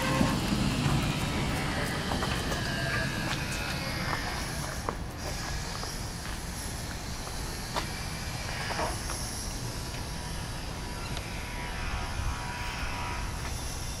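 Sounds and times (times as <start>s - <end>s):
electric drive whine: 0.0s - 14.0s
electric pallet jack running: 0.0s - 14.0s.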